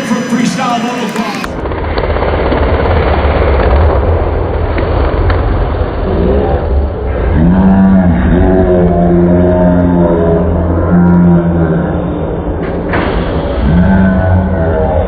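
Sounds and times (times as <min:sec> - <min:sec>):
rumbling crowd: 0:00.0 - 0:15.0.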